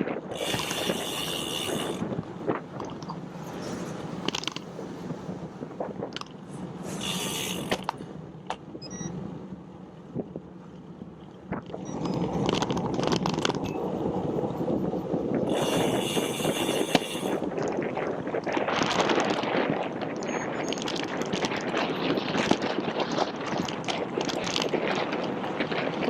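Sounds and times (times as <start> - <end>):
bicycle clicks and rattles: 0.0 - 4.8, 5.7 - 8.7, 10.8 - 13.8, 15.3 - 26.0
road and wind noise: 0.0 - 26.0.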